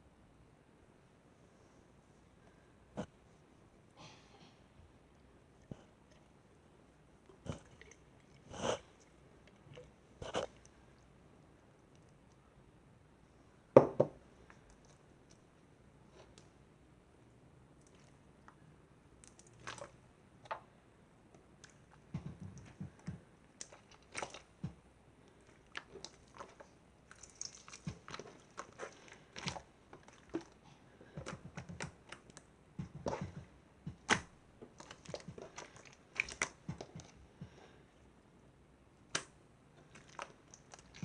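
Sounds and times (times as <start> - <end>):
soft squishing: 4.7 - 41.0.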